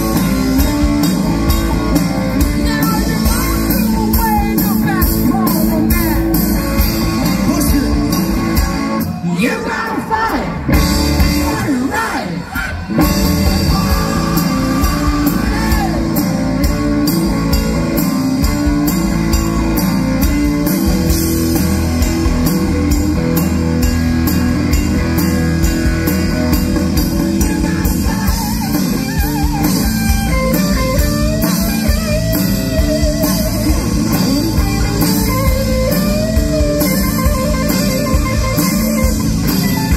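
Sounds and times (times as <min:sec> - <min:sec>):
drum kit: 0:00.0 - 0:09.3, 0:10.3 - 0:11.9, 0:12.7 - 0:39.9
bass guitar: 0:00.0 - 0:39.9
electric guitar: 0:00.0 - 0:39.9.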